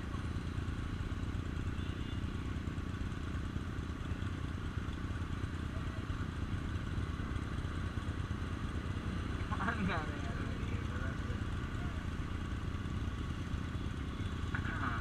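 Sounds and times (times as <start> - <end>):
vehicle engine running steadily: 0.0 - 15.0.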